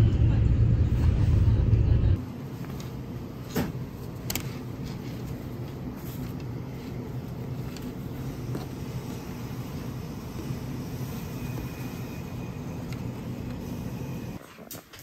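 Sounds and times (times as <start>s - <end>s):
low machine hum: 0.0s - 14.4s.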